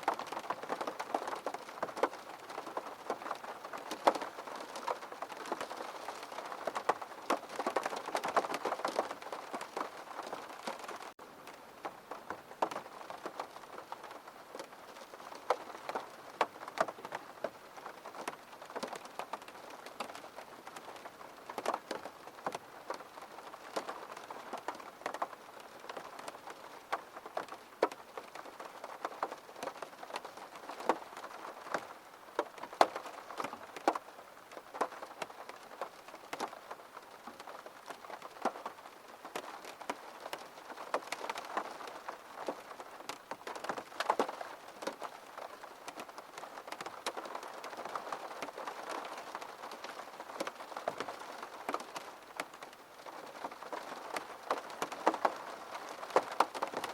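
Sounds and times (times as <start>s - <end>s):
rain on a window pane: 0.0s - 56.9s.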